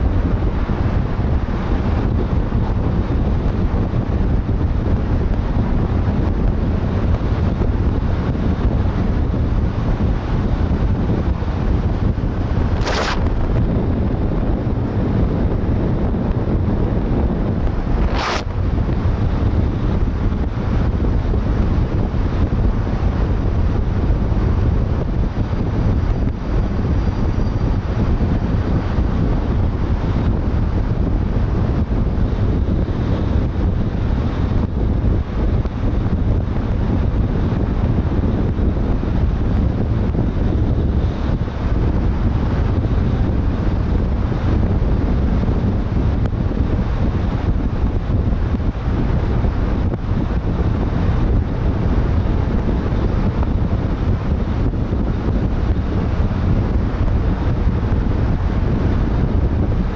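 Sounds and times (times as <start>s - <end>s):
car road and tyre noise: 0.0s - 59.9s
wind rumble on microphone: 0.0s - 59.9s.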